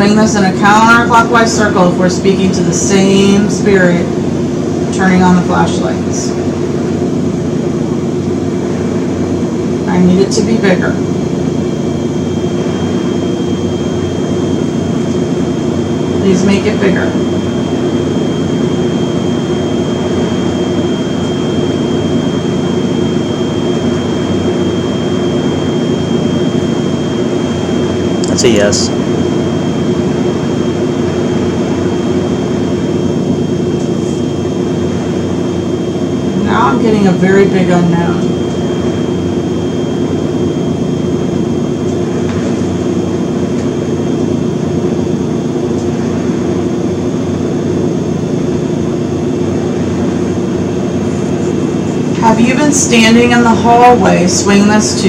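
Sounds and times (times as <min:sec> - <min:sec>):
mechanical drone: 0:00.0 - 0:55.0
thin high whine: 0:00.0 - 0:55.0.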